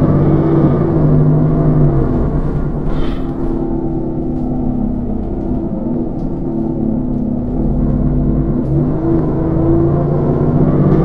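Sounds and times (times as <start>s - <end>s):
bus engine drone: 0.0s - 11.0s.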